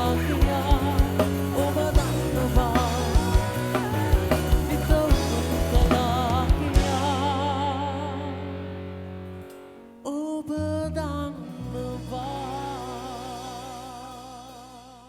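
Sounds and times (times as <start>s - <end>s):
acoustic band playing: 0.0s - 15.0s.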